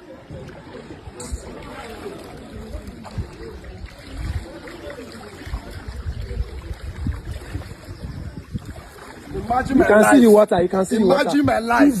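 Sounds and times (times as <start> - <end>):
wading through water: 0.0 - 12.0.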